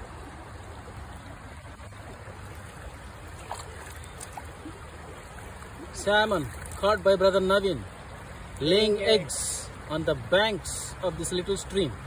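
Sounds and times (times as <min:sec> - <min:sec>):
stream running over gravel: 0:00.0 - 0:12.0.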